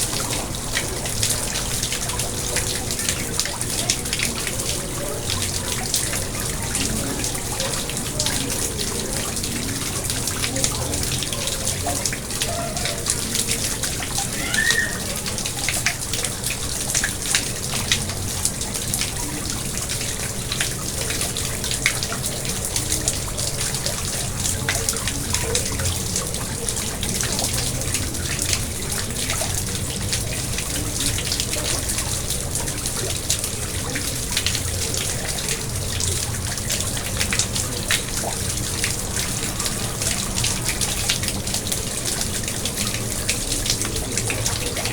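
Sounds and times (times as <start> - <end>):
pond water splashing and trickling: 0.0 - 44.9.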